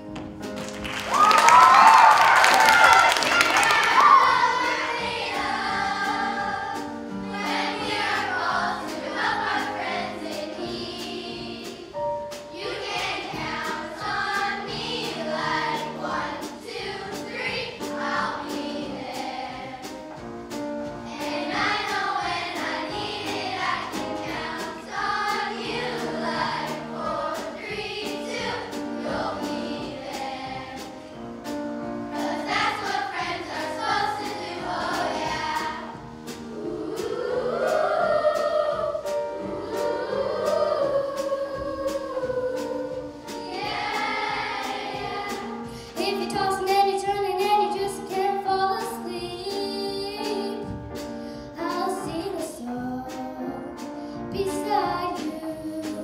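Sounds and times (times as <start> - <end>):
children's choir singing pop song: 0.0 - 56.0
instrumental accompaniment: 0.0 - 56.0.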